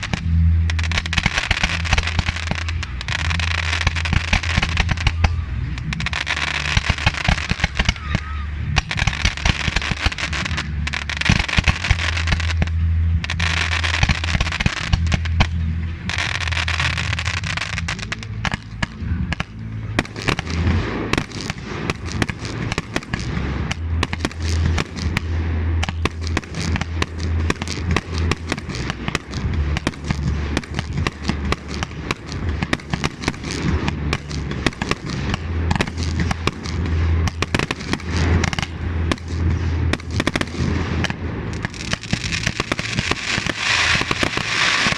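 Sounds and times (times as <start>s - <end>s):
fireworks bangs and crackles: 0.0s - 44.9s
fireworks hissing crackle: 0.0s - 44.9s
low rumble: 0.0s - 44.9s.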